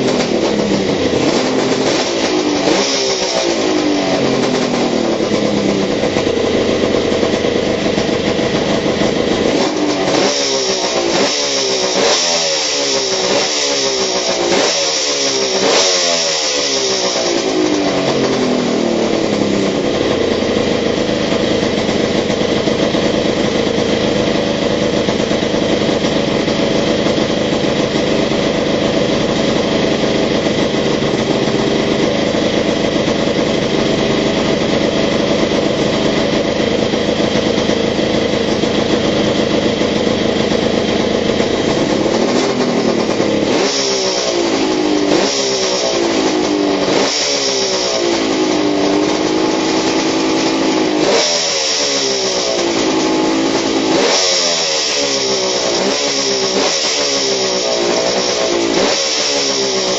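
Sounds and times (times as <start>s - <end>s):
engine revving: 0.0s - 59.9s
two-stroke engine fast idle: 0.0s - 59.9s.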